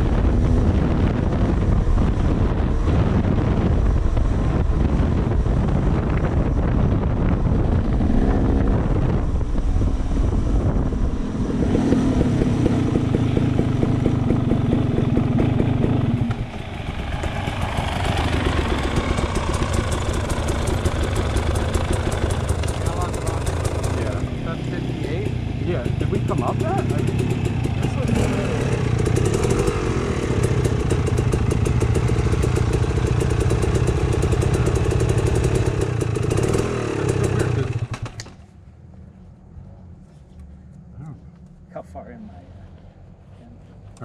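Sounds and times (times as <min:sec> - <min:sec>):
wind buffeting microphone: 0:00.0 - 0:38.2
another dirt bike running: 0:00.0 - 0:38.3
dirt bike engine: 0:00.0 - 0:38.5.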